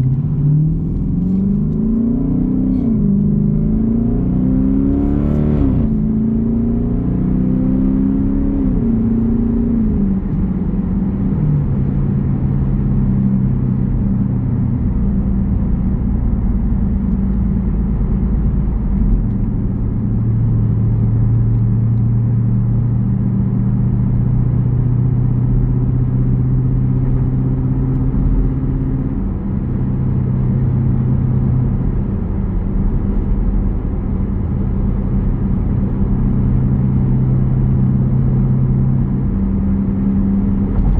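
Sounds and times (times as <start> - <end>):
car exhaust rumbling while driving: 0.0 - 40.9.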